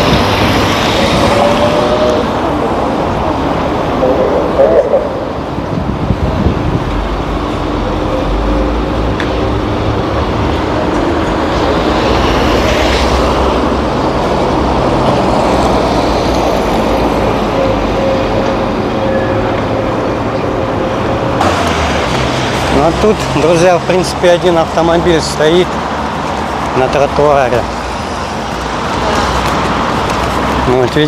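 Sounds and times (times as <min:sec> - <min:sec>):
cars driving past: 0:00.0 - 0:31.0
tyre noise on road: 0:00.0 - 0:31.0.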